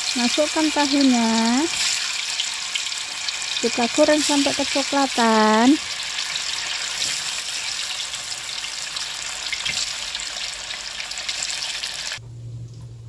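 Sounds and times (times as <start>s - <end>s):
tofu sizzling in hot oil: 0.0s - 12.2s.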